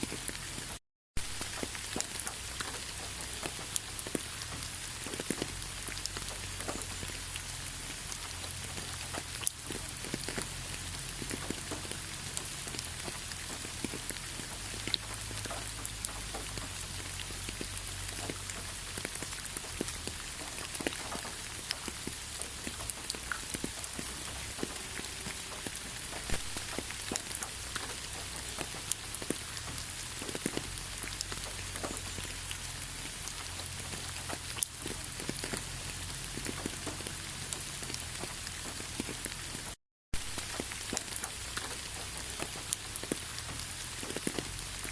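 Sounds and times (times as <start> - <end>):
rain hissing: 0.0 - 44.9
raindrops pattering on surfaces: 0.0 - 44.9.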